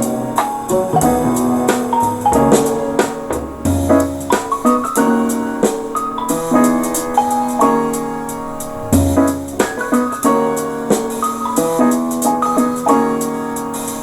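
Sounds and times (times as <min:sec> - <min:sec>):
drum kit: 0:00.0 - 0:14.0
keyboard melody: 0:00.0 - 0:14.0.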